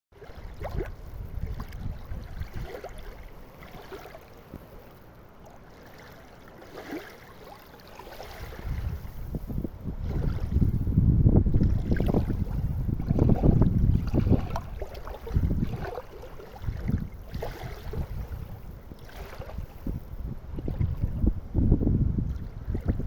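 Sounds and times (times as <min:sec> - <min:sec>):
faint sea water splashing: 0:00.2 - 0:21.6, 0:22.2 - 0:23.0
wind buffeting microphone: 0:00.3 - 0:04.7, 0:08.2 - 0:23.0.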